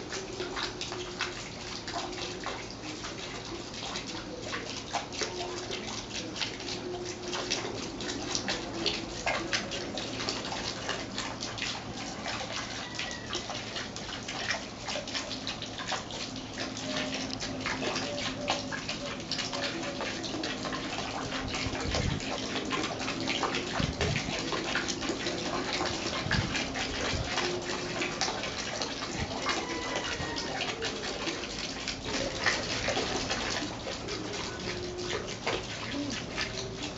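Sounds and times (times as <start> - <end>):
fountain splashing into pond: 0.0 - 36.9.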